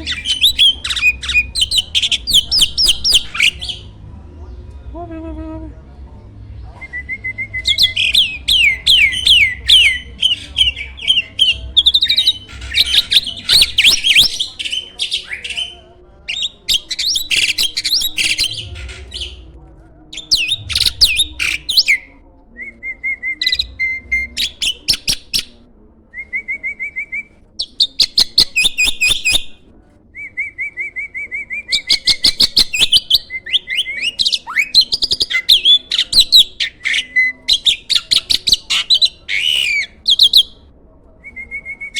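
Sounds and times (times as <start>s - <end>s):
starling singing: 0.0s - 4.8s, 5.7s - 25.6s, 26.2s - 29.6s, 30.2s - 41.9s.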